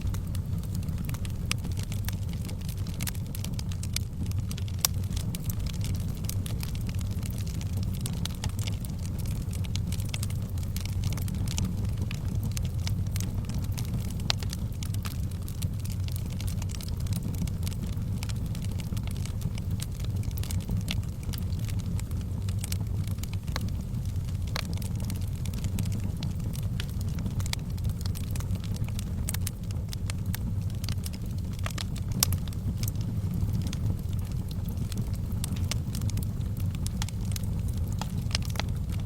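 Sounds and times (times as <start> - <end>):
fire crackling and popping: 0.0 - 39.0
low rumble of flames: 0.0 - 39.0.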